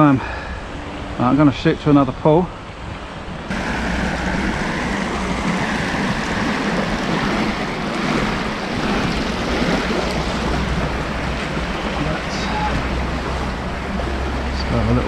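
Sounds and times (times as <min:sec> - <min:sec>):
river rushing over weir: 0:02.5 - 0:15.0.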